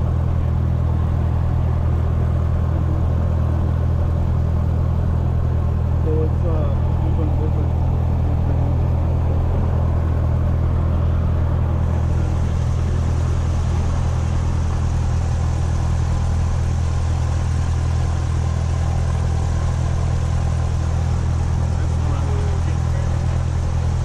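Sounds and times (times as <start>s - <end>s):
aircraft engine and propeller: 0.0s - 24.0s.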